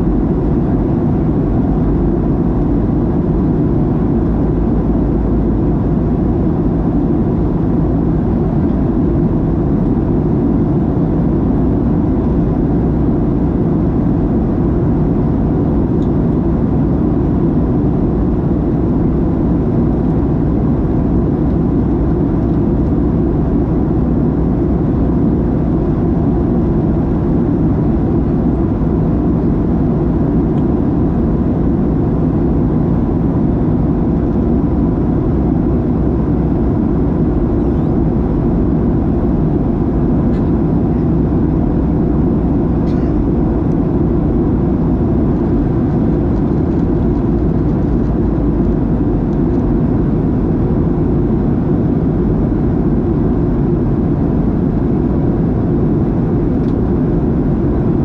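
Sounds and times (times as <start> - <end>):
airliner cabin roar: 0.0 - 58.0
faint steady whine: 0.0 - 58.0.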